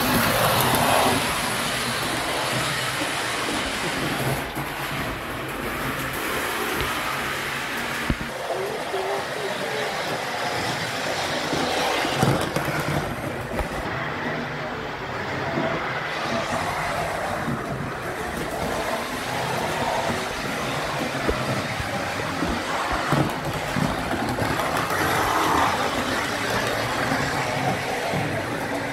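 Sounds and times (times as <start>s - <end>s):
model train rolling rumble: 0.0s - 28.9s.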